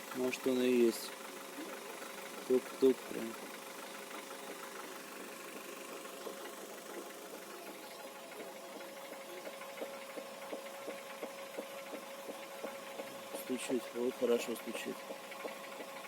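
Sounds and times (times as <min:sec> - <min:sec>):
engine hum: 0:00.0 - 0:16.0
knocking from turning wheel: 0:01.6 - 0:16.0.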